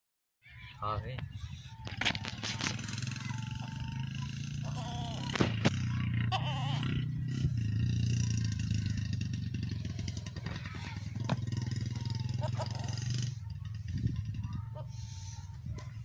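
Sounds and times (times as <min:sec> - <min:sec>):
small engine running: 0:02.0 - 0:15.7.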